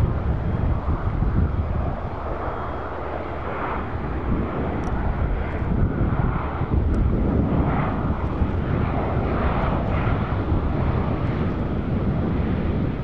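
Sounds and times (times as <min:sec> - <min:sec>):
turboprop aircraft engines rumbling: 0:00.0 - 0:13.0.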